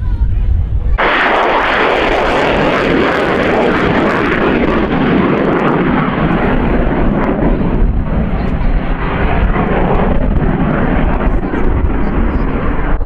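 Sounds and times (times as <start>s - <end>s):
aircraft engine overhead: 0.0s - 13.0s.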